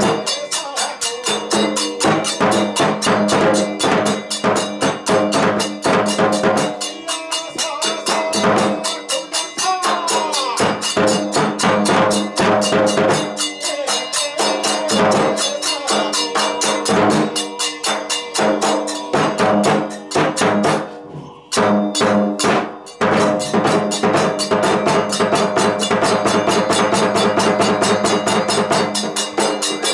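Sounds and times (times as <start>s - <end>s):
drum and cymbal strokes: 0.0s - 29.9s.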